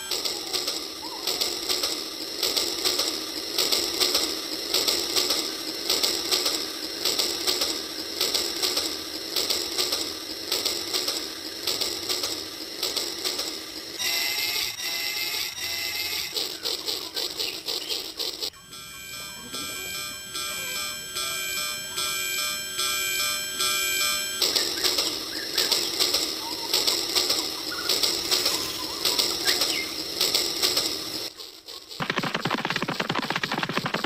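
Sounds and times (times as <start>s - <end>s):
toy train rhythmic clicking: 0.0s - 34.0s.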